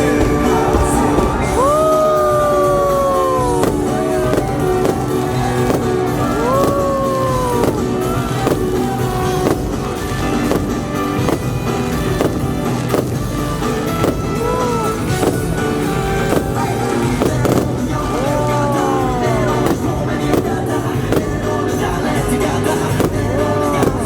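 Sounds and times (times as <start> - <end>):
fireworks bangs and pops: 0.0 - 24.0
fireworks show music: 0.0 - 24.0.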